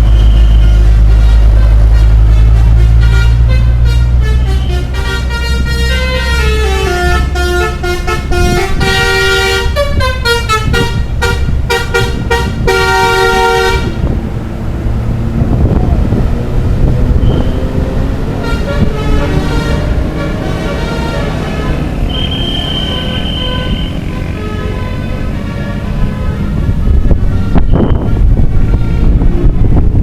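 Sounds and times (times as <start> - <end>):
bus air horns playing a tune: 0.0 - 14.2, 17.1 - 30.0
bus engine drone: 0.0 - 30.0.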